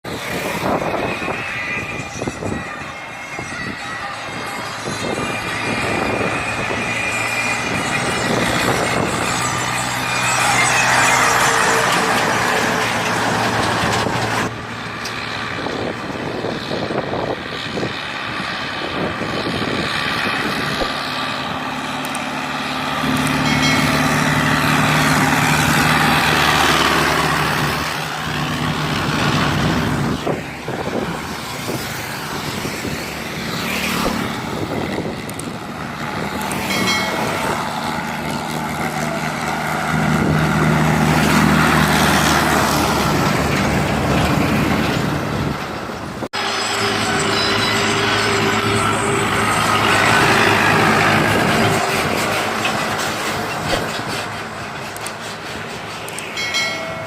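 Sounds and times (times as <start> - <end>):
diesel tractor engines under load: 0.0 - 57.0.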